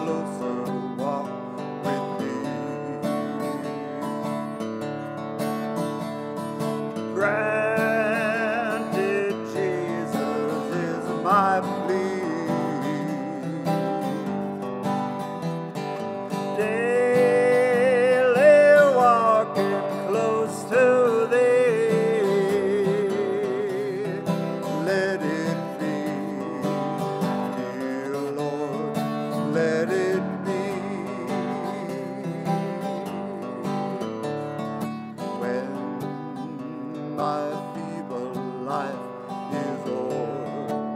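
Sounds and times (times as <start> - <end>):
strummed acoustic guitar: 0.0 - 40.9.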